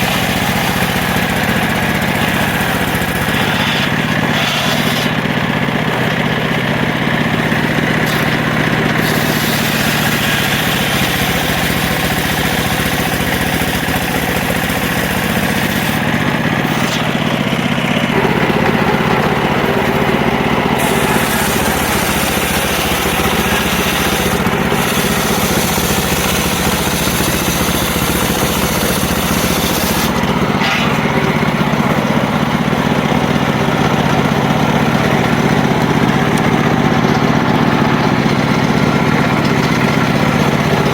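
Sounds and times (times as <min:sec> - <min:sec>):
circular saw cutting wood: 0:00.0 - 0:40.9.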